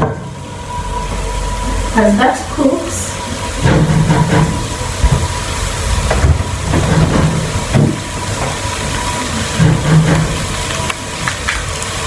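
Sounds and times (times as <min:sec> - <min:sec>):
food sizzling in a pot: 0:00.2 - 0:12.0.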